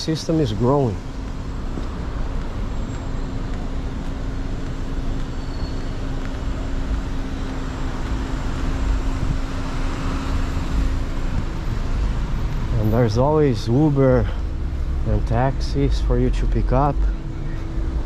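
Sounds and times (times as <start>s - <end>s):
engine hum: 0.0s - 18.0s
traffic rumble: 0.0s - 18.0s.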